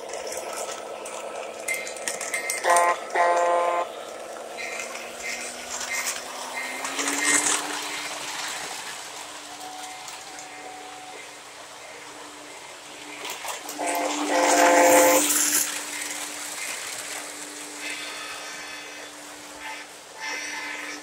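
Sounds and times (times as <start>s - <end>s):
steady motor hum: 0.0s - 21.0s
wheels clattering over track: 0.0s - 21.0s
model train electronic horn: 0.8s - 8.8s, 9.4s - 21.0s.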